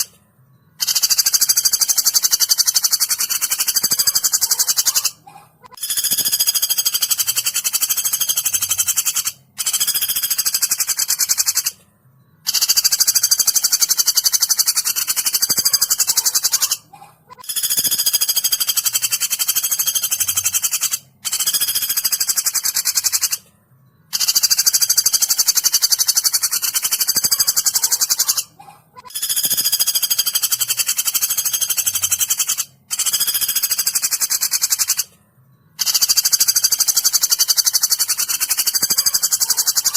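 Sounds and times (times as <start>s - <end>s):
woodpecker rattling trills: 0.0s - 23.5s, 24.1s - 39.9s.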